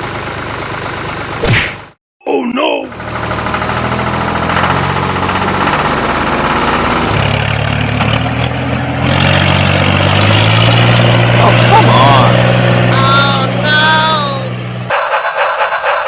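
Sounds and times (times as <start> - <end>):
tractor engine running: 0.0 - 1.9, 2.7 - 16.0.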